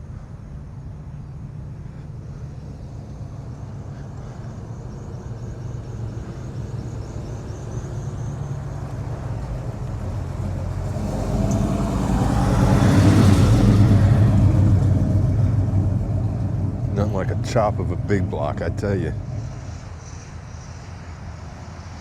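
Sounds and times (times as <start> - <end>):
lopey engine idling: 0.0 - 20.7.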